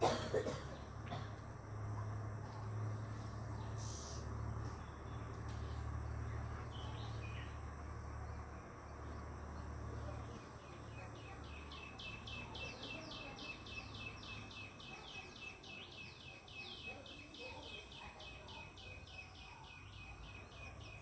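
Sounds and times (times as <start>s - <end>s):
bird chirping: 3.1s - 21.0s.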